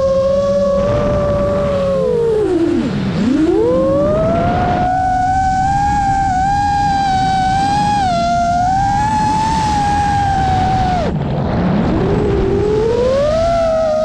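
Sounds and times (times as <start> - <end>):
quadcopter motors whining: 0.0 - 11.2, 12.0 - 14.0
wind rush: 0.0 - 14.0.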